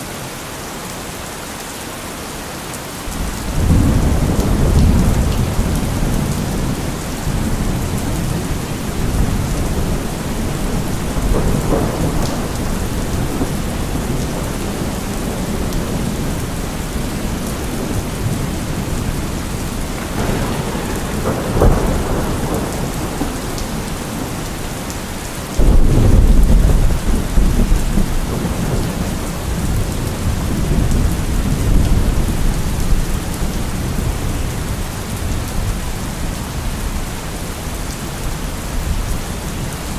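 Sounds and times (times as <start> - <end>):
steady rain: 0.0 - 39.9
thunder rumbling: 3.1 - 37.6.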